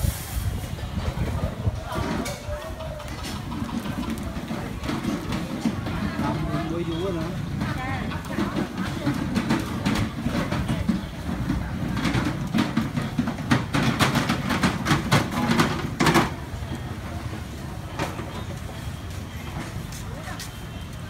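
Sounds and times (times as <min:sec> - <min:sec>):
faint background voices: 0:00.0 - 0:13.8, 0:14.8 - 0:21.0
low traffic rumble: 0:00.0 - 0:21.0.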